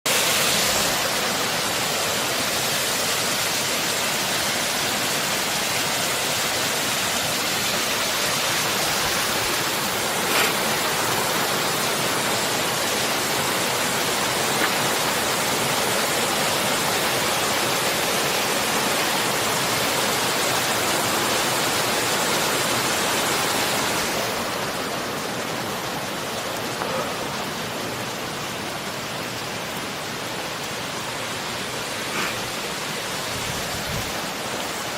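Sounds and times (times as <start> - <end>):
flowing stream water rushing: 0.1 - 34.9.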